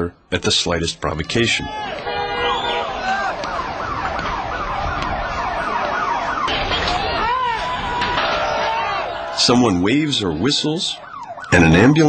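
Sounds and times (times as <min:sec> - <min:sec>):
crowd noise: 0:00.0 - 0:12.0
ambulance siren yelping: 0:01.4 - 0:12.0.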